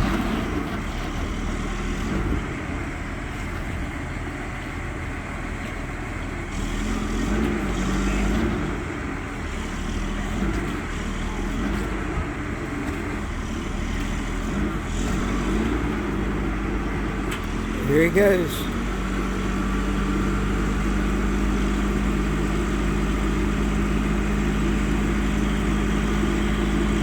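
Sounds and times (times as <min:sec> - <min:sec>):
heavy vehicle engine running: 0:00.0 - 0:27.0.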